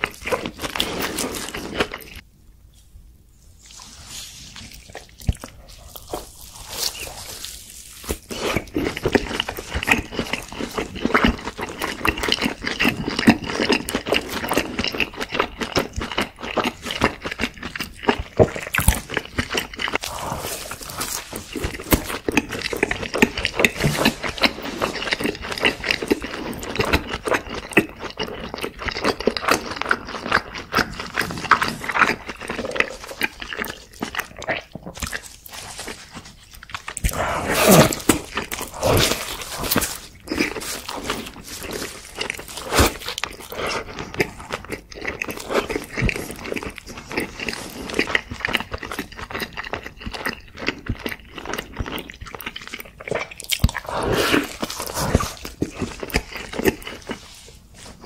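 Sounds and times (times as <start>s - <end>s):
crisp crunching bites: 4.6s - 57.4s
person chewing and lip smacking: 4.6s - 58.0s.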